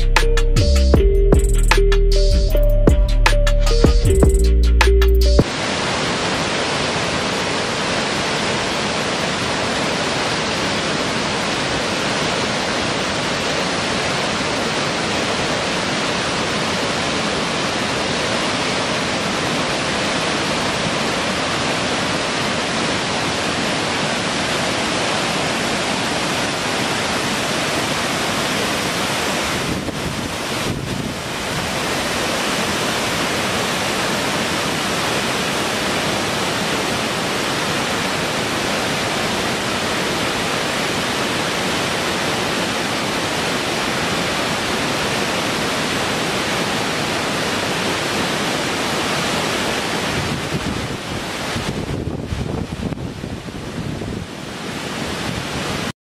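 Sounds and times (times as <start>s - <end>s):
river pouring over rocky rapids: 5.4s - 55.9s.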